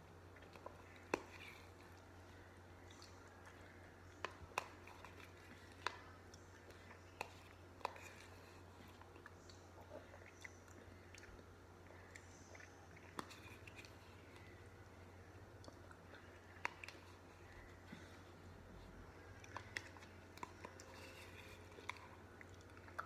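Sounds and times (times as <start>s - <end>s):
person chewing soft food: 0.0s - 23.0s
steady low hum: 0.0s - 23.0s.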